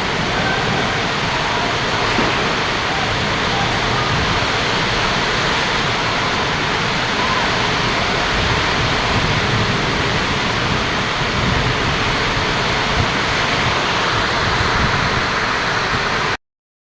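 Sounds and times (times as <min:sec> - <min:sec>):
heavy rain pouring: 0:00.0 - 0:16.4
low rumble of wind: 0:00.0 - 0:16.4.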